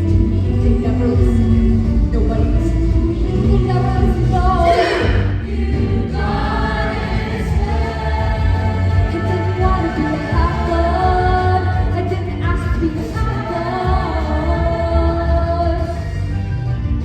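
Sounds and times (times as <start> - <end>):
ensemble singing: 0.0 - 16.4.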